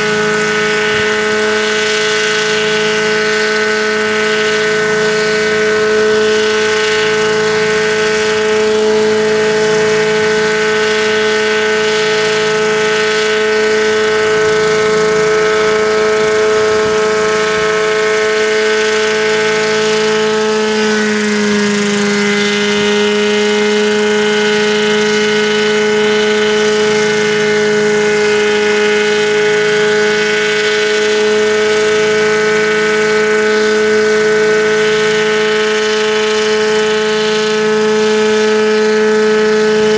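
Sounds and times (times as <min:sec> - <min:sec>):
helicopter rotors whining: 0:00.0 - 0:39.9.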